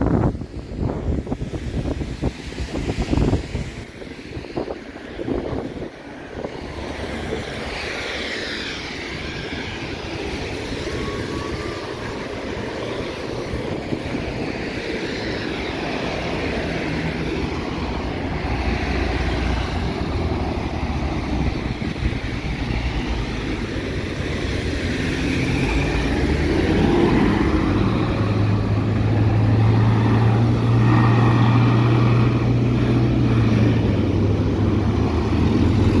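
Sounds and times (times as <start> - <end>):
heavy engine low drone: 0.0 - 36.0
tyres on wet road: 0.0 - 36.0
vehicle engines running: 0.0 - 36.0.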